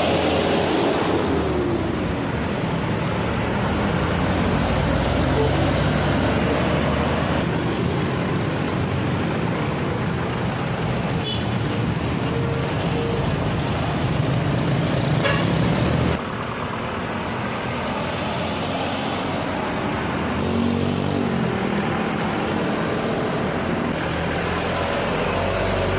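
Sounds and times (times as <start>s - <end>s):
motorbikes: 0.0s - 25.9s
trucks driving past: 0.0s - 25.9s.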